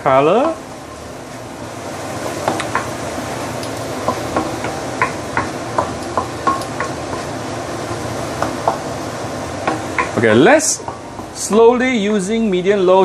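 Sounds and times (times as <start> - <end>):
paste sizzling in a wok: 0.0 - 12.2.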